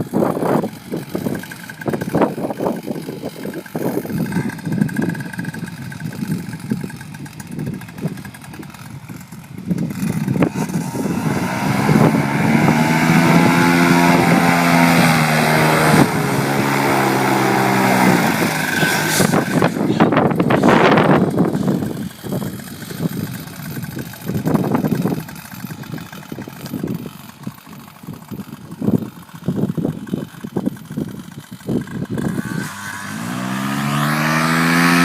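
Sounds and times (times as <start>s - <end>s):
paramotor engine running: 0.0s - 35.0s
propeller noise: 0.0s - 35.0s
wind buffeting microphone: 0.0s - 35.0s.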